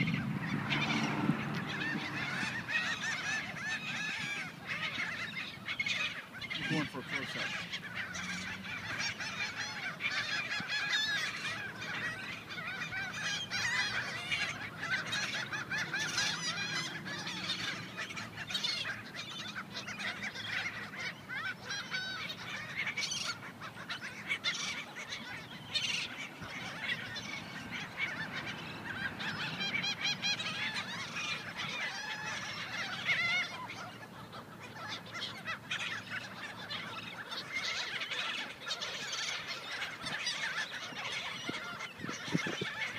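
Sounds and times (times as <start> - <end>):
seagulls squawking: 0.0 - 42.9.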